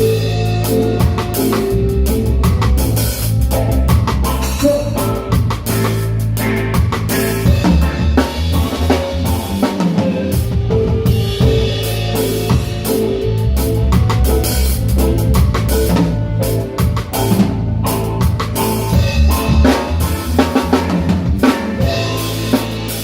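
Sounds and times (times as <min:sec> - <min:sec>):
deep bass line: 0:00.0 - 0:23.0
live reggae band playing: 0:00.0 - 0:23.0.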